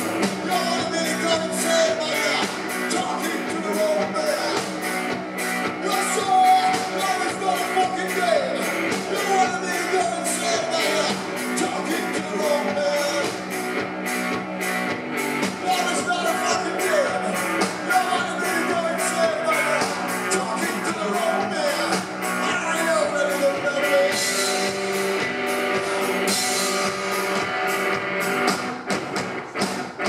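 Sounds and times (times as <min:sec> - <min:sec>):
electric guitar: 0:00.0 - 0:30.0
person singing: 0:00.3 - 0:05.1, 0:05.7 - 0:13.4, 0:15.5 - 0:27.3.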